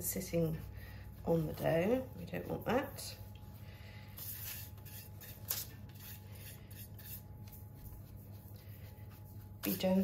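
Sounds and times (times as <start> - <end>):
pastry brush swishing on bread crust: 0.0 - 3.3, 4.1 - 10.0.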